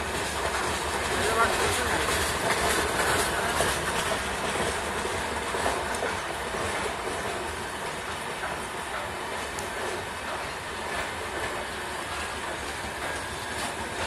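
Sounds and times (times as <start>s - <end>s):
clatter over rail joints: 0.0s - 14.0s
train wheels rumbling on rails: 0.0s - 14.0s.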